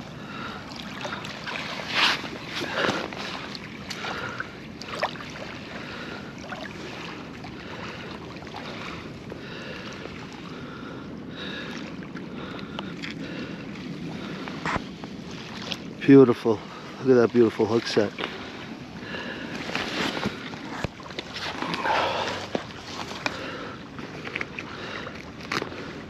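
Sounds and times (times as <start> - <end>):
small waves washing on shore: 0.0 - 26.0.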